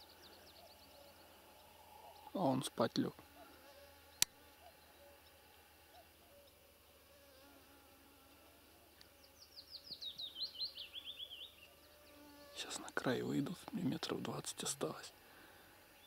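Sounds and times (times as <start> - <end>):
songbird singing: 0.0 - 7.1, 8.2 - 16.0
faint insect whine: 0.0 - 16.0.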